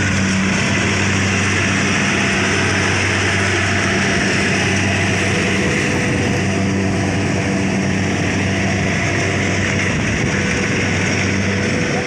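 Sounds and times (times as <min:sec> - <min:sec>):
harvester engine humming: 0:00.0 - 0:12.0
machinery noise: 0:00.0 - 0:12.0.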